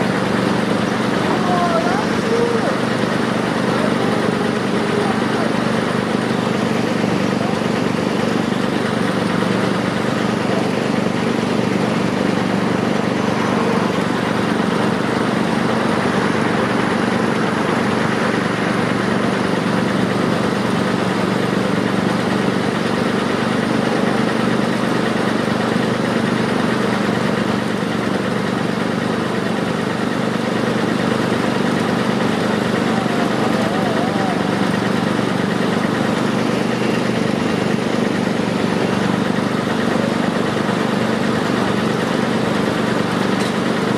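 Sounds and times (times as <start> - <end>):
diesel machinery idling: 0.0 - 43.9.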